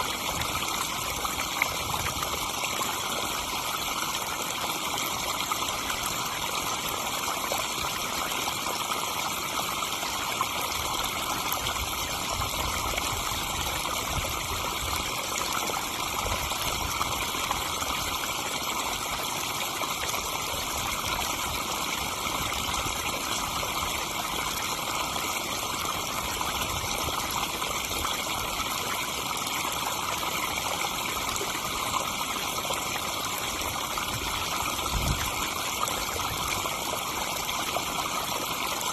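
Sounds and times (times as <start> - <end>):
pond waterfall splashing: 0.0 - 38.9.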